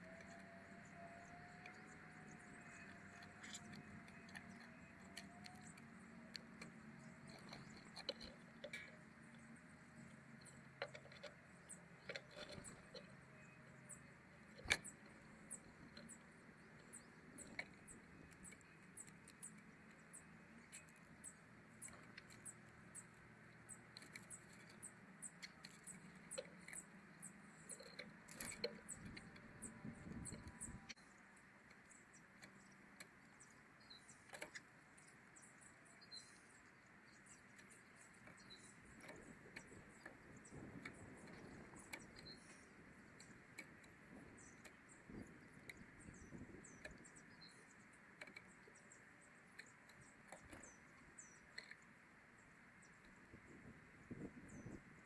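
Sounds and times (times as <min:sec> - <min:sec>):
small birds chirping: 0:00.0 - 0:55.0
soft clicks: 0:00.1 - 0:31.0, 0:37.1 - 0:51.9.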